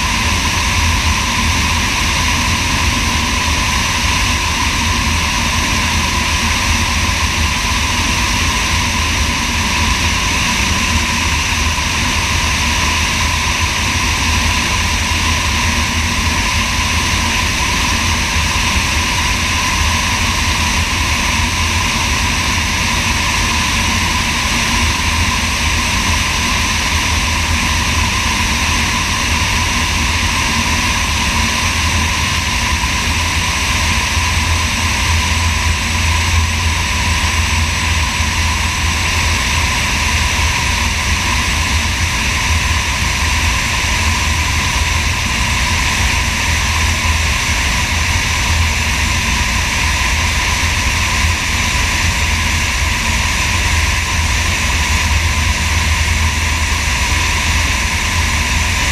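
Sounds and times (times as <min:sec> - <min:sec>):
aircraft engine and propeller: 0:00.0 - 0:58.9.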